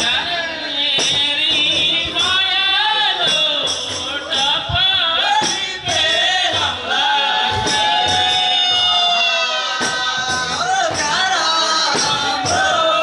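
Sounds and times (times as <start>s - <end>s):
frame drums with jingles: 0.0s - 13.0s
men singing: 0.0s - 13.0s.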